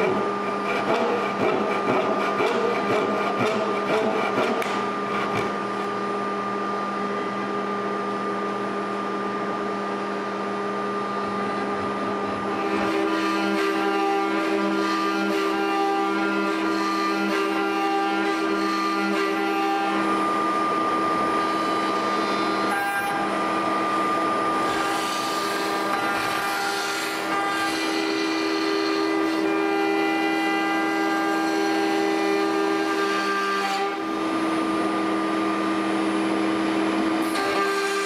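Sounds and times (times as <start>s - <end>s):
router spindle whining: 0.0s - 7.7s, 9.2s - 38.0s.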